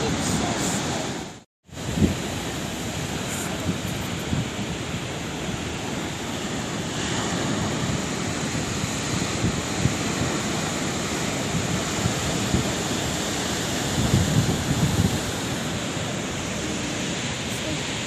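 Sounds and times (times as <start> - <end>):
waves washing on shore: 0.0 - 18.0.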